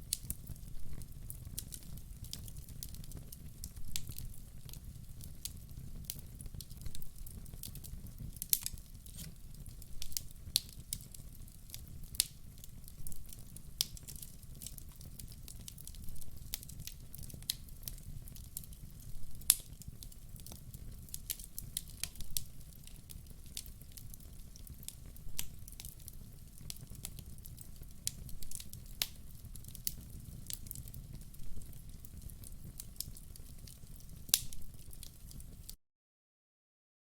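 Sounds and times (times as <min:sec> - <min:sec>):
low rumble of flames: 0:00.0 - 0:35.7
wood crackling and popping: 0:00.0 - 0:35.8.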